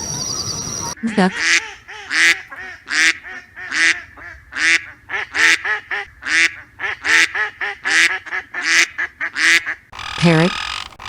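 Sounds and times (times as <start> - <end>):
duck quacking: 1.2 - 11.0.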